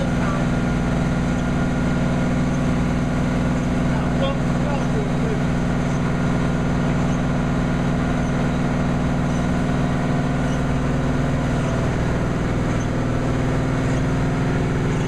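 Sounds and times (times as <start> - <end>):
drill rig engine running: 0.0 - 15.0.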